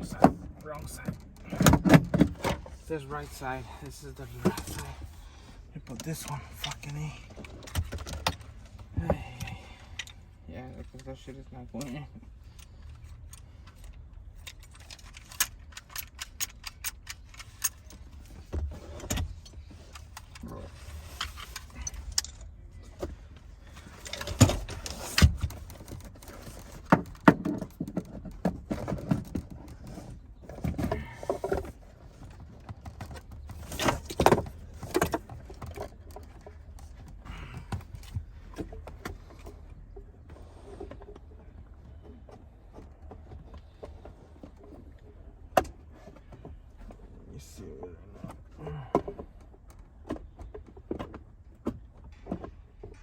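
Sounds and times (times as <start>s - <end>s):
seatbelt hardware clinking and rattling: 0.0s - 53.0s.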